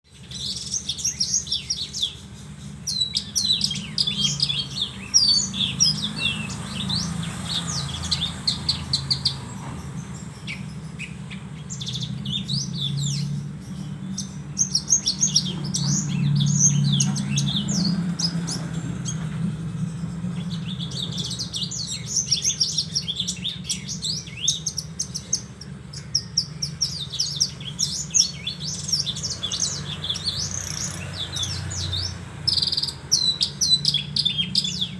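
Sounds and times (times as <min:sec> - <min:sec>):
bird singing chirps and trills: 0:00.0 - 0:34.9.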